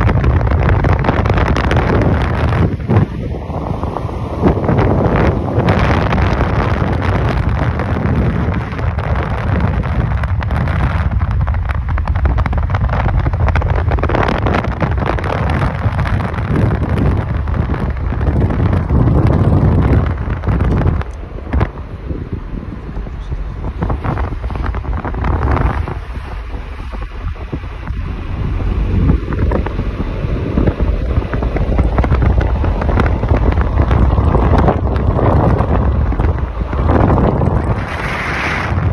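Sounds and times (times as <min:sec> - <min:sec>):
motorbike low rumble: 0:00.0 - 0:38.9
wind buffeting microphone: 0:00.0 - 0:38.9.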